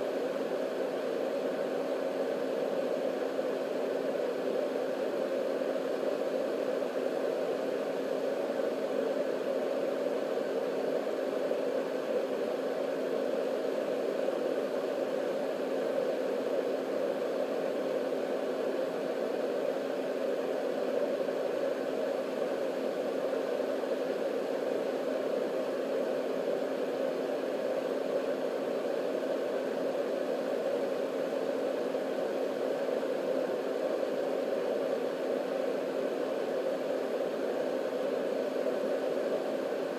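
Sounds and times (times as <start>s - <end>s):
faint steady hum: 0.0s - 39.9s
white noise machine fan: 0.0s - 39.9s.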